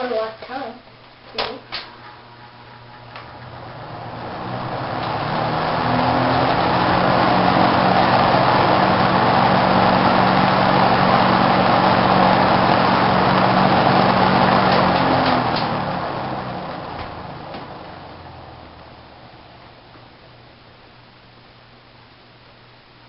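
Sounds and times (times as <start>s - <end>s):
fan motor hum: 0.0s - 23.0s
box fan air rush: 1.8s - 21.9s.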